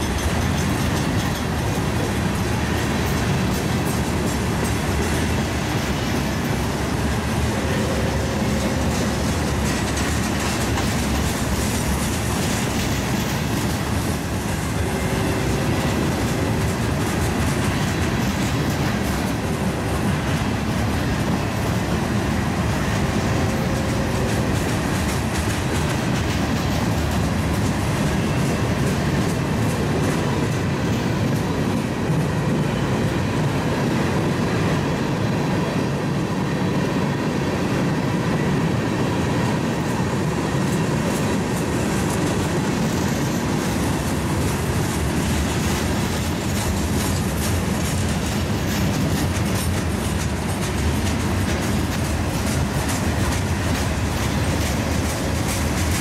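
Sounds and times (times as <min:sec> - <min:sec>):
wheels clicking over rail joints: 0:00.0 - 0:34.9, 0:39.3 - 0:56.0
train cars rumbling past: 0:00.0 - 0:56.0.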